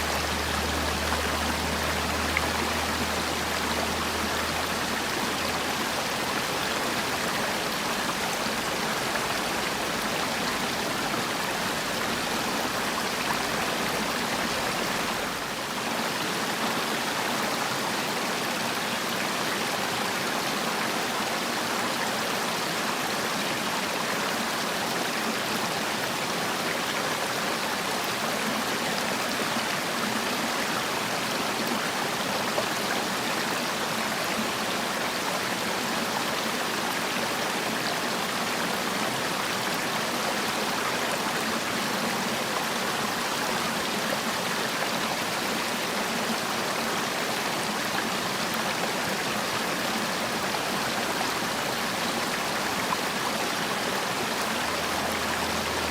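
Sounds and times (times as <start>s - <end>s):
stream flowing: 0.0s - 55.9s.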